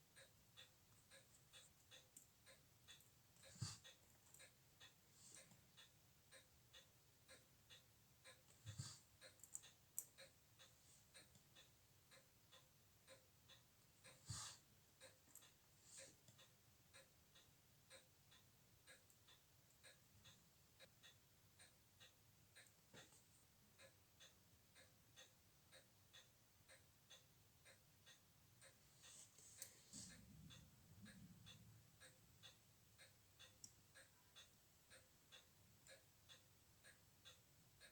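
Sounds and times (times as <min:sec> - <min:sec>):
faint steady ticking: 0:00.0 - 0:37.9.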